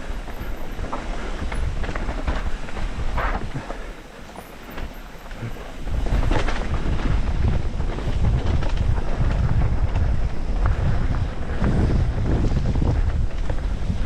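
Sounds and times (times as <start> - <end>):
bike rumbling and rattling: 0.0 - 14.0
wind buffeting microphone: 0.0 - 14.0.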